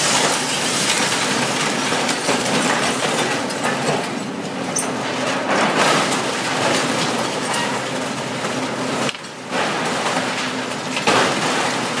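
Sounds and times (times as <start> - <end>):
debris crunching and clattering: 0.0 - 12.0.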